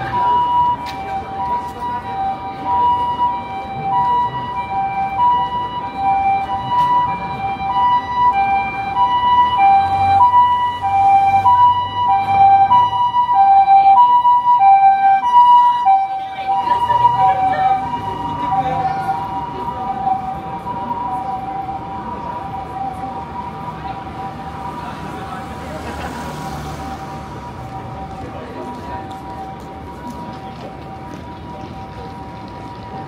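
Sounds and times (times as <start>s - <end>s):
ambulance siren two-tone call: 0.0s - 33.0s.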